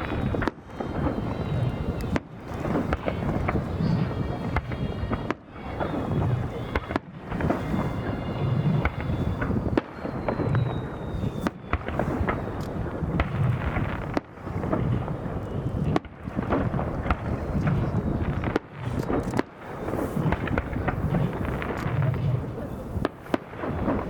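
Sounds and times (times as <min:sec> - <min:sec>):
fireworks crackling: 0:00.0 - 0:24.0
fireworks loud bangs: 0:00.0 - 0:24.0.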